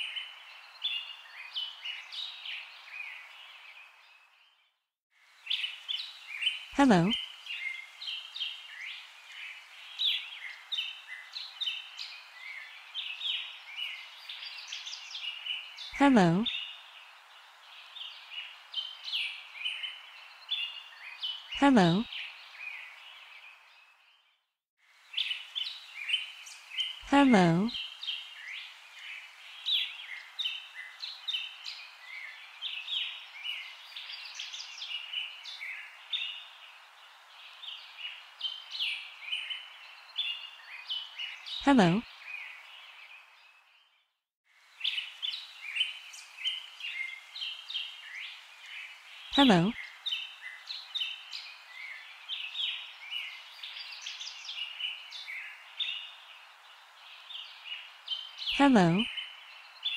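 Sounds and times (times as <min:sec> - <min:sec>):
faint steady hiss: 0:05.2 - 0:23.8, 0:24.9 - 0:43.6, 0:44.5 - 0:59.9
small birds chirping: 0:05.4 - 0:24.2, 0:25.0 - 0:44.0, 0:44.7 - 0:59.9.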